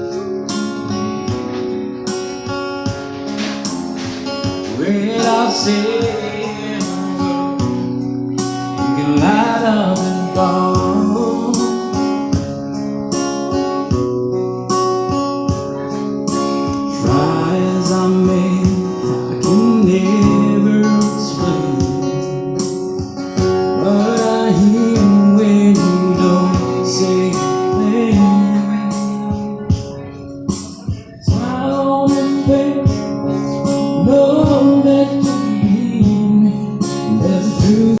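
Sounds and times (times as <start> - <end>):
person singing: 0.0 - 14.1, 15.0 - 38.0
guitar accompaniment: 0.0 - 38.0.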